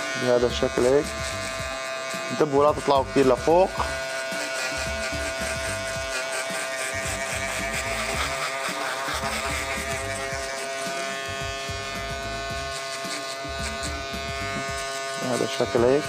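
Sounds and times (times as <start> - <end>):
background music: 0.0 - 16.0
electric hair clipper humming: 0.0 - 16.0.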